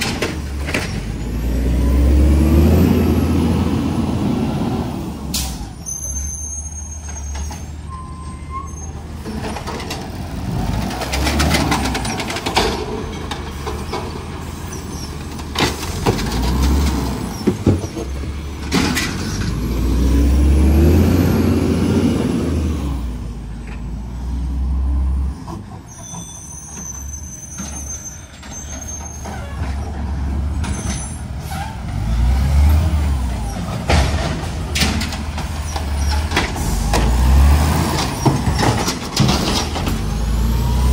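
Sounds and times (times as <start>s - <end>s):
garbage truck engine: 0.0s - 40.9s.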